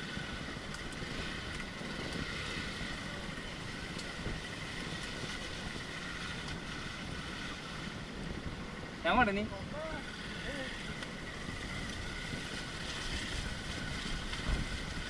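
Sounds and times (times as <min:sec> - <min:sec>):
motorcycle engine running: 0:00.0 - 0:15.0
wind rumbling on microphone: 0:00.0 - 0:15.0.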